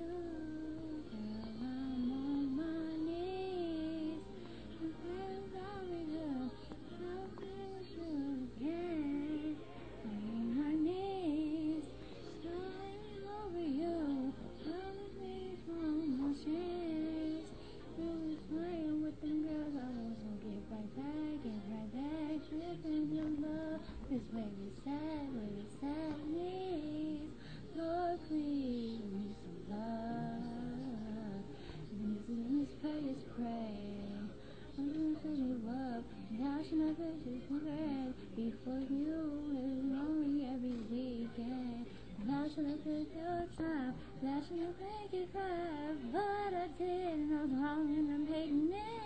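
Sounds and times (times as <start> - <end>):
woman singing solo: 0.0 - 49.0.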